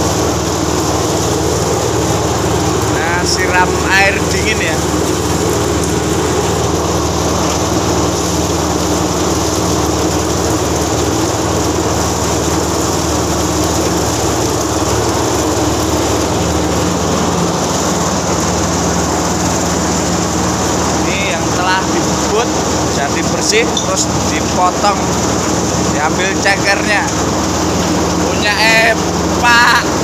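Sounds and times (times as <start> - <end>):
chicken plucking machine running: 0.0 - 30.0.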